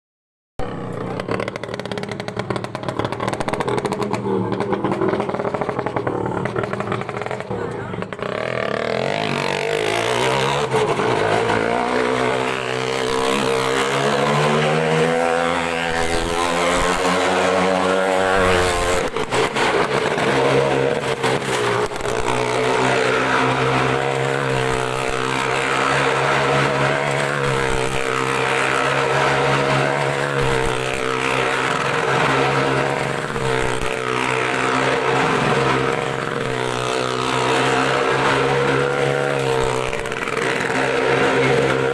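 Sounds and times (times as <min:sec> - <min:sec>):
vehicle engine under load: 0:00.6 - 0:41.9.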